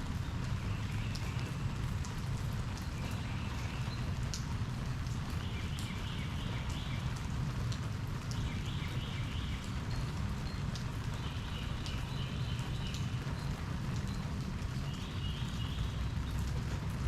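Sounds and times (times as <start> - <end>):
sharp drip ticks: 0.0 - 17.0
steady rain: 0.0 - 17.0.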